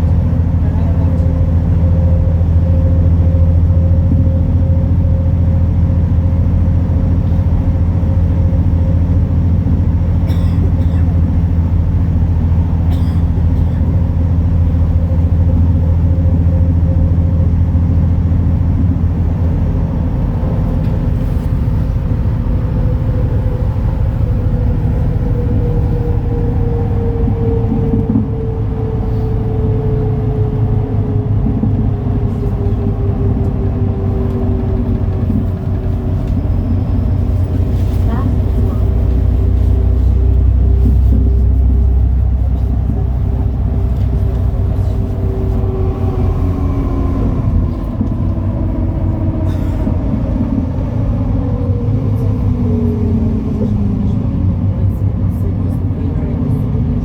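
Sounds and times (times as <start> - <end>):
bus diesel engine drone: 0.0 - 57.0
bus whine: 0.0 - 57.0.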